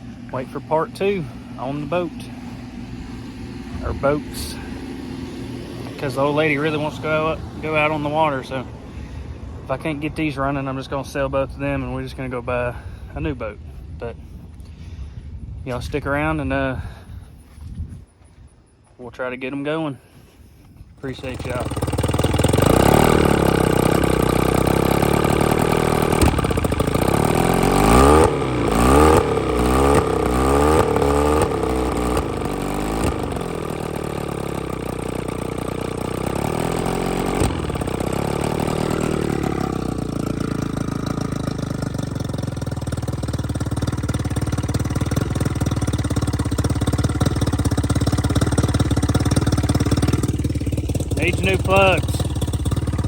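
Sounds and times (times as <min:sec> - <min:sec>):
outboard motor revving and idling: 0:00.0 - 0:11.3, 0:21.0 - 0:53.0.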